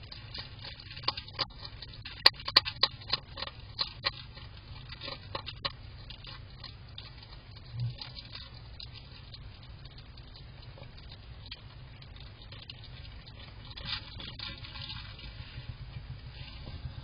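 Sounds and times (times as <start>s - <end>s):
hedgehog crunching dry food: 0.0s - 16.8s.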